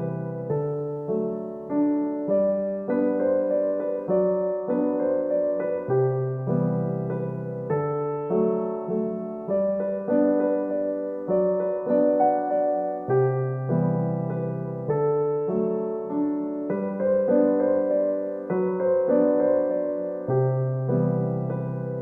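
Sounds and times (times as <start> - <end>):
gentle electric piano melody: 0.0 - 22.0.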